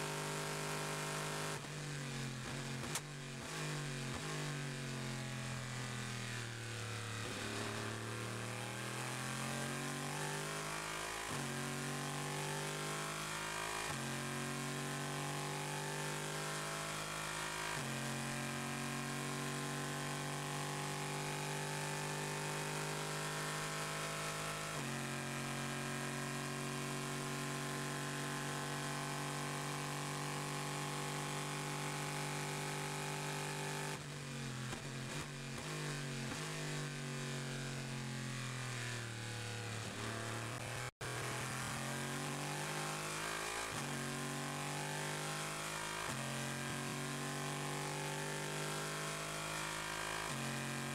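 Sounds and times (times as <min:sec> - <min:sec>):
race car engine at full throttle: 0:00.0 - 0:50.9.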